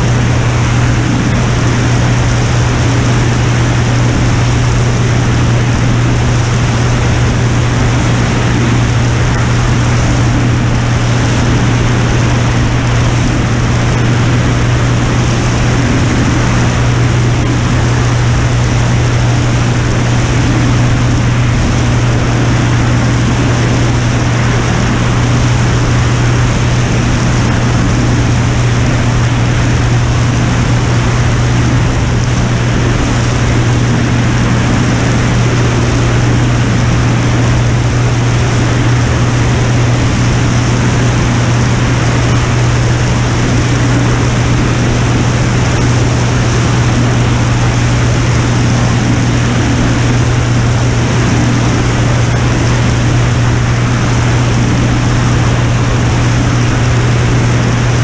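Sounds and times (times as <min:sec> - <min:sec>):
aircraft engine and propeller hum: 0:00.0 - 0:58.0
rush of airflow: 0:00.0 - 0:58.0.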